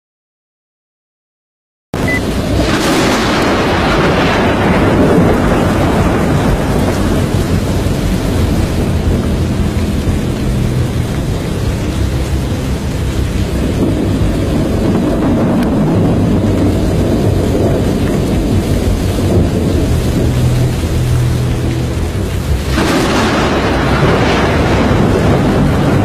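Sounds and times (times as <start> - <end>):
low thunder rumble: 2.0 - 26.0
rain: 2.0 - 26.0
sharp thunderclap: 2.0 - 26.0.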